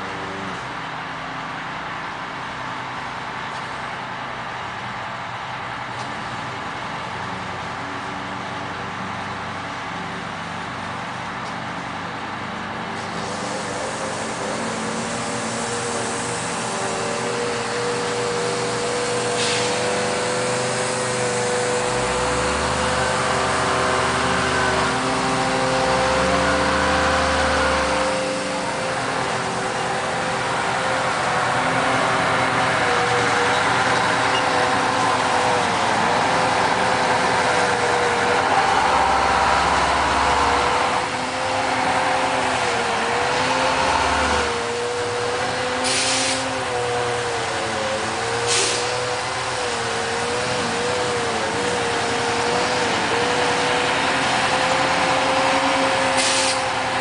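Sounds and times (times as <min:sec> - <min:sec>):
truck diesel engine driving: 0:00.0 - 0:57.0.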